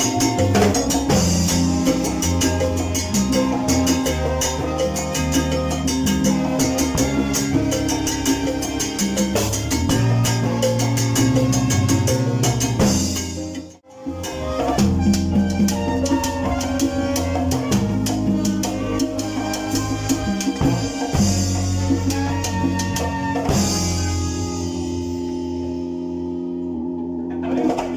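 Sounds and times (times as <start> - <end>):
salsa band playing: 0.0 - 27.9.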